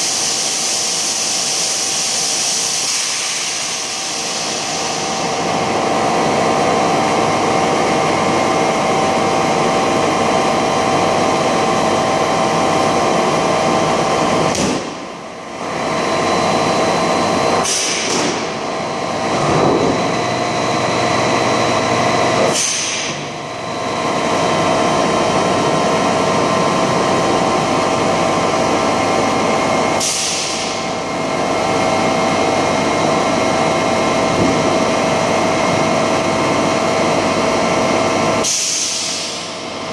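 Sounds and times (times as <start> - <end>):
machine humming with whining tones: 0.0 - 39.9.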